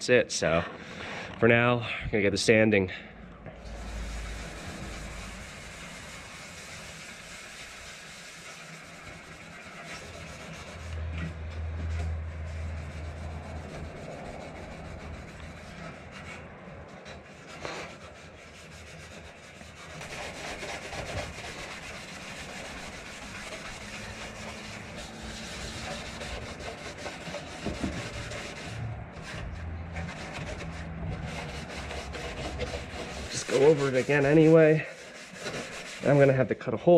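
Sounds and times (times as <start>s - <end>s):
scuff pad scrubbing metal: 3.7s - 36.5s.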